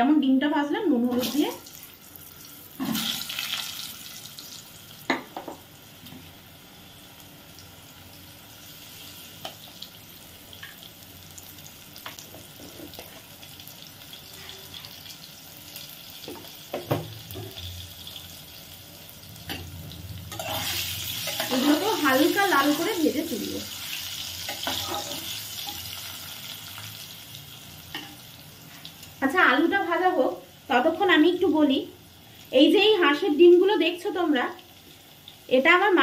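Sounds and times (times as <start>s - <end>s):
potatoes sizzling in oil: 0.9s - 36.0s.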